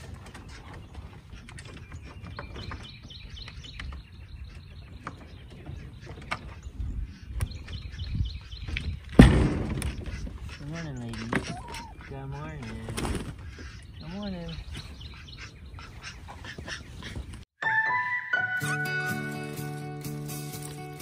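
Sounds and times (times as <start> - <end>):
birds chirping: 0.0 - 17.4.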